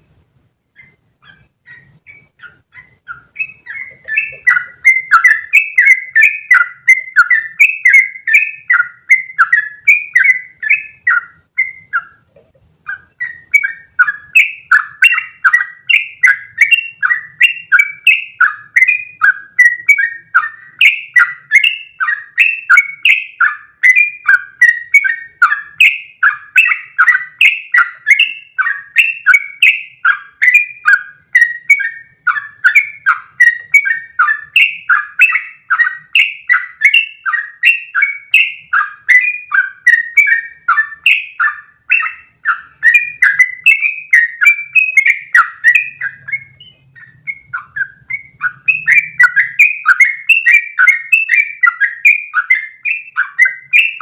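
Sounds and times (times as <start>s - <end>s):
bulbul singing chirped notes: 0.7s - 54.0s.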